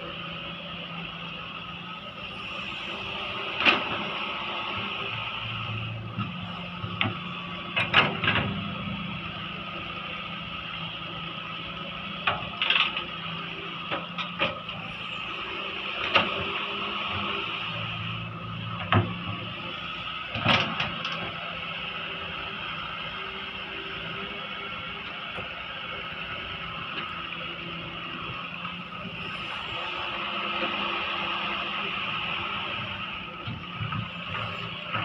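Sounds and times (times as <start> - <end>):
excavator engine whining: 0.0 - 35.0.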